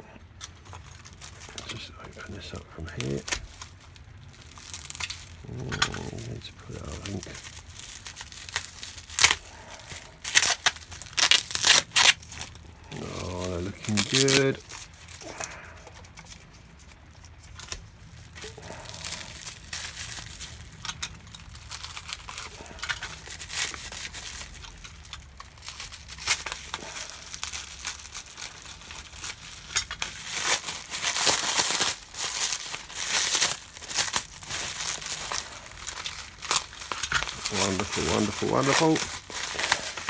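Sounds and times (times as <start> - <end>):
packaging crinkling and tearing: 0.3 - 40.0.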